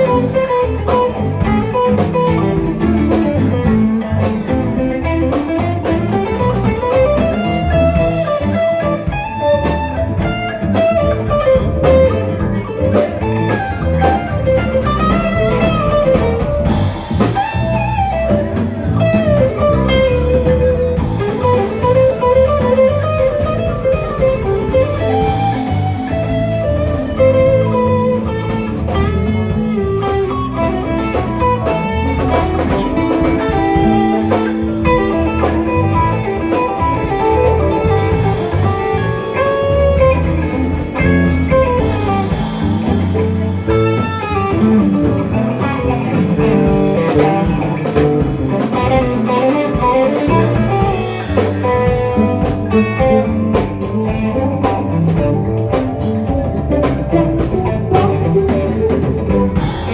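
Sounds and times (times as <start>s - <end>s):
bass guitar: 0.0s - 59.9s
drum kit: 0.0s - 59.9s
lead guitar lines: 0.0s - 59.9s.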